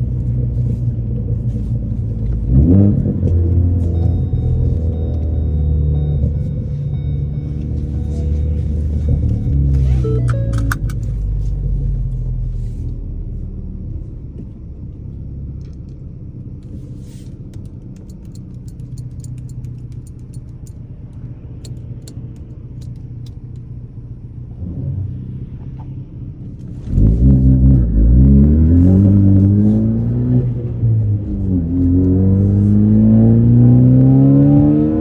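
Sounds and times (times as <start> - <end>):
car engine exhaust rumble: 0.0 - 35.0.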